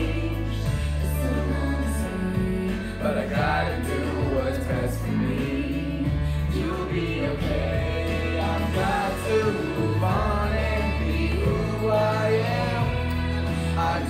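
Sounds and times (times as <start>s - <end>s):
long held bass notes: 0.0s - 14.0s
person singing: 0.0s - 14.0s
slow pop song: 0.0s - 14.0s.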